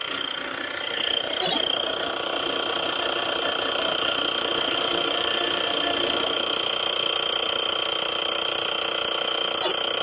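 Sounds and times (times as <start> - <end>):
videodisc player mechanical drone: 0.0 - 10.0.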